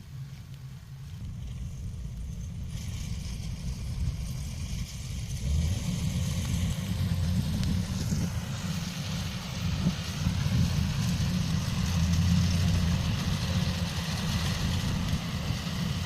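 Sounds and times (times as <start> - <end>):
heavy machinery engine rumbling: 0.0 - 16.0
hiss: 1.5 - 16.0.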